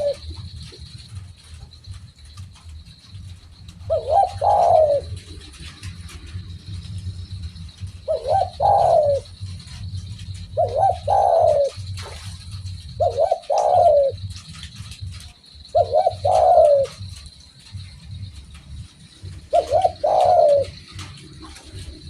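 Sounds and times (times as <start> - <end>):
dove cooing: 0.0 - 22.0
steady low rumble: 0.0 - 22.0.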